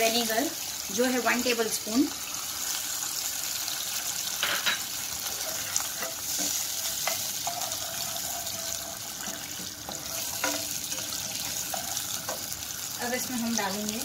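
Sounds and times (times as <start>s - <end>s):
sauce sizzling in hot oil: 0.0s - 14.0s.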